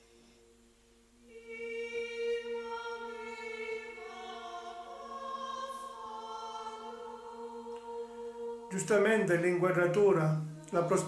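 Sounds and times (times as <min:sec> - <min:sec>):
choir singing sustained notes: 0:00.0 - 0:11.0.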